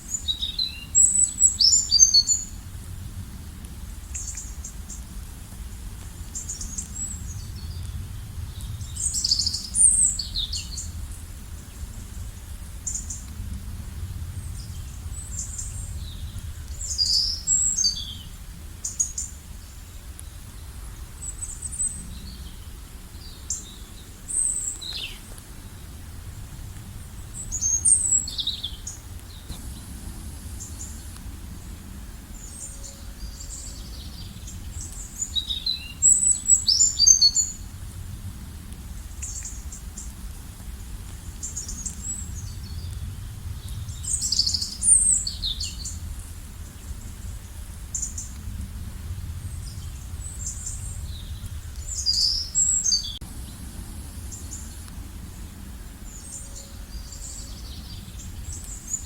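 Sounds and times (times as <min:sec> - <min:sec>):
low outdoor rumble: 0:01.2 - 0:59.0.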